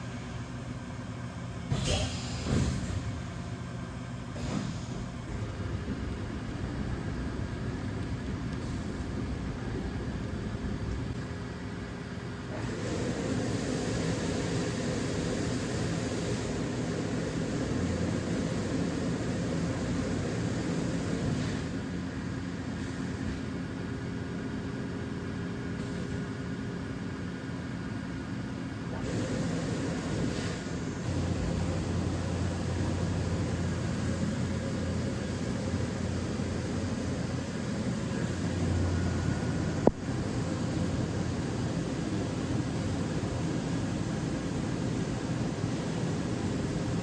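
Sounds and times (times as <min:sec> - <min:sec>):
machine hum with hiss: 0:00.0 - 0:47.0.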